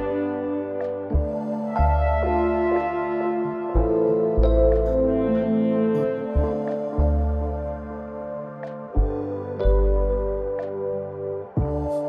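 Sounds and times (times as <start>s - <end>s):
slow music with sustained chords: 0.0s - 12.0s.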